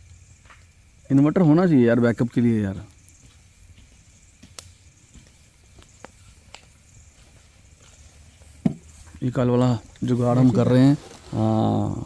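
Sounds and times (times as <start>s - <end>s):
night background hiss: 0.0s - 12.0s.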